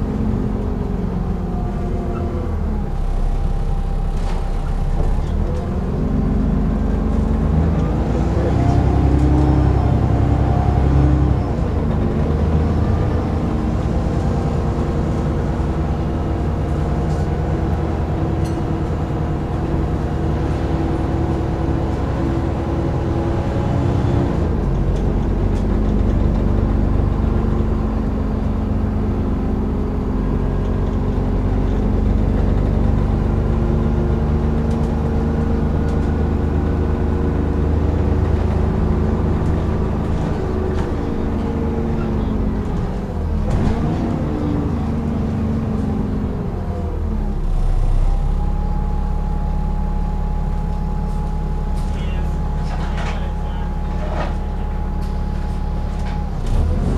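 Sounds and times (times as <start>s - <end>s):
bus engine whine: 0.0s - 56.9s.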